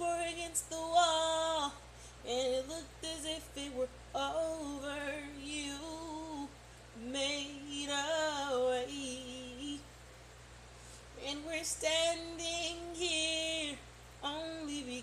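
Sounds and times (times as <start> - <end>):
woman singing unaccompanied: 0.0 - 9.9, 11.2 - 15.0.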